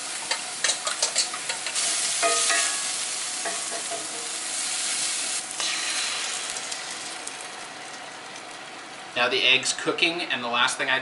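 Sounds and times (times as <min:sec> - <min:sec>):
food sizzling in a skillet: 0:00.0 - 0:08.9.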